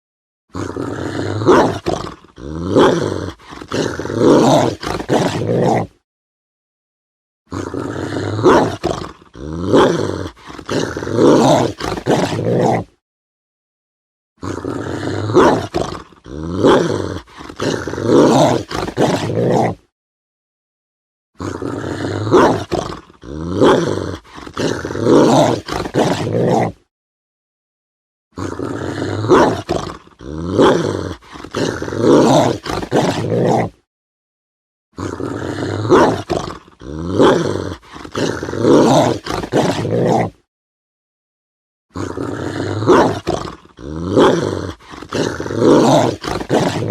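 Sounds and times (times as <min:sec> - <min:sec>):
large dog growling: 0:00.5 - 0:06.0, 0:07.5 - 0:13.0, 0:14.4 - 0:19.9, 0:21.4 - 0:26.9, 0:28.4 - 0:33.9, 0:35.0 - 0:40.5, 0:41.9 - 0:46.9.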